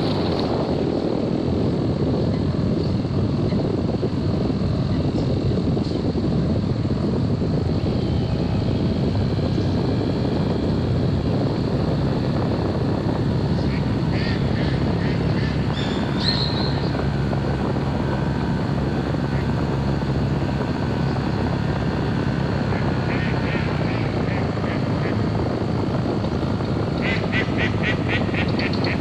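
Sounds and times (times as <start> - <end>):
model plane motor and propeller: 0.0 - 29.0.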